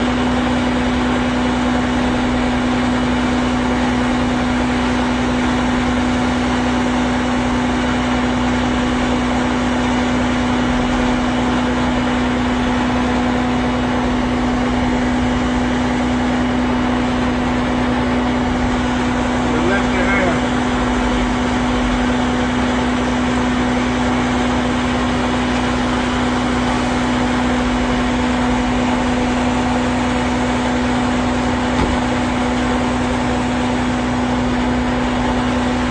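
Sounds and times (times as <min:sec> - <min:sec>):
fire engine diesel engine humming: 0:00.0 - 0:35.9.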